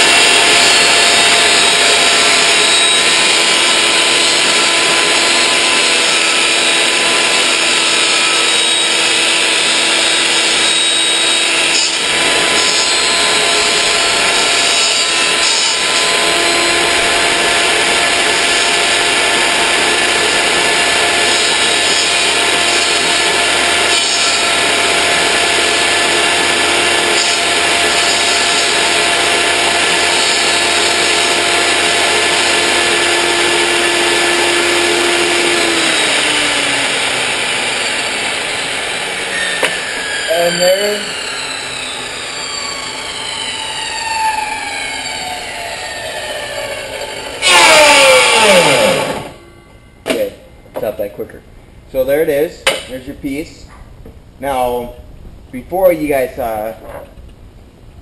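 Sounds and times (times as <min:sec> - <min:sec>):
saw cutting plastic sheet: 0:00.0 - 0:49.4
table saw motor whine: 0:00.0 - 0:51.0.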